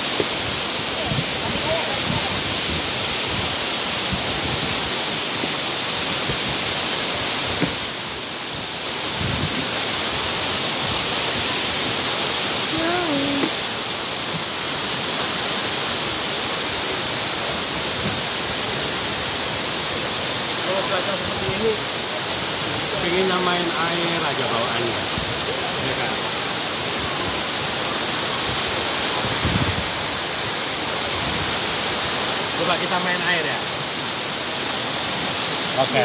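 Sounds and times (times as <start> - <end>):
waterfall and stream rushing: 0.0 - 36.0.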